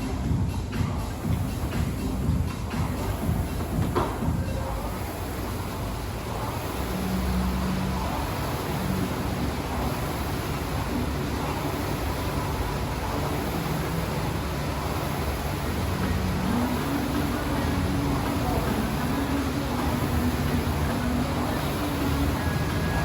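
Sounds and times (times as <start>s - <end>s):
engine running hum: 0.0s - 23.0s.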